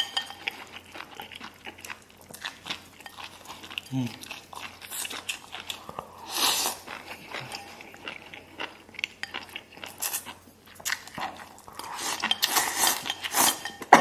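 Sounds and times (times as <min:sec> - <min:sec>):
chewing and slurping: 0:00.0 - 0:13.9.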